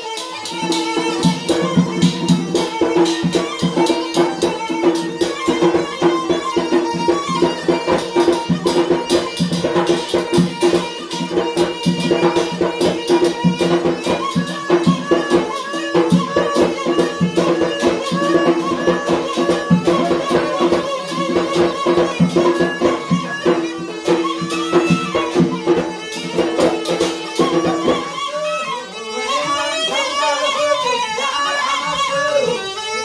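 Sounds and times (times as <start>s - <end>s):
drum beaten fast: 0.0s - 33.0s
reedy double pipe melody: 0.0s - 33.0s.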